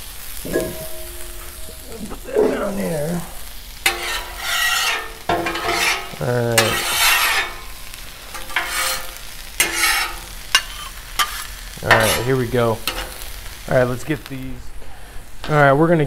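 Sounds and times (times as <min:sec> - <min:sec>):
food sizzling: 0:00.0 - 0:16.0
metal spatulas scraping griddle: 0:00.4 - 0:13.3.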